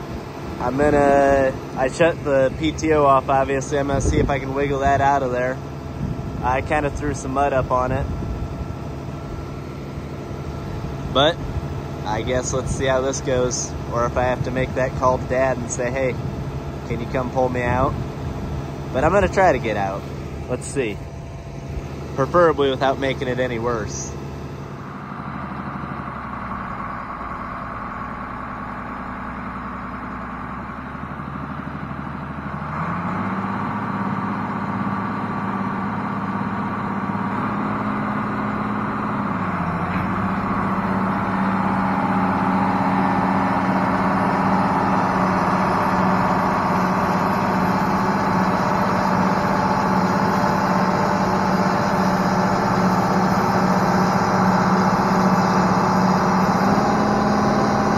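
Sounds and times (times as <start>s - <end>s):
tractor diesel engine revving: 0.0s - 57.9s.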